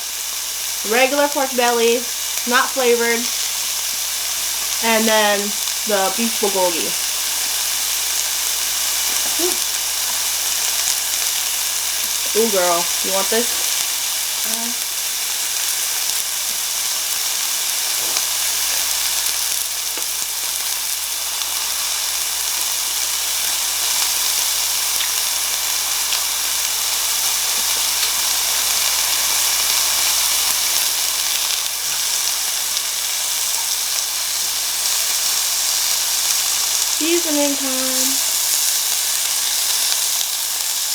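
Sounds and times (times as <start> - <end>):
meat sizzling on a grill: 0.0 - 40.9.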